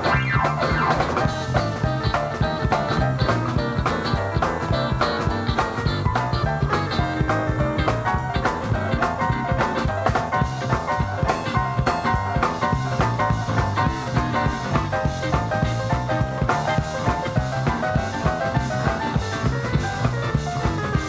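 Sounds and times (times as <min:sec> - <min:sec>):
drum kit beat: 0:00.0 - 0:21.0
upbeat swing music: 0:00.0 - 0:21.0.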